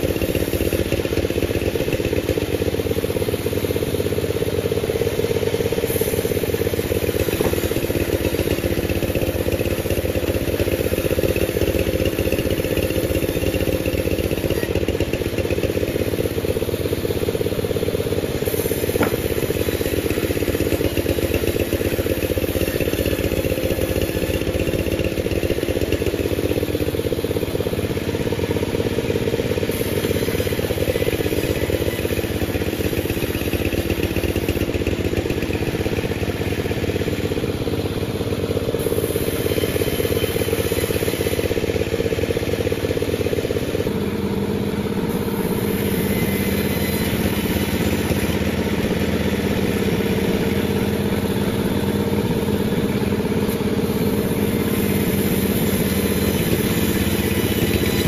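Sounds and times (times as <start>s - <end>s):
sawmill mechanical drone: 0.0s - 58.0s.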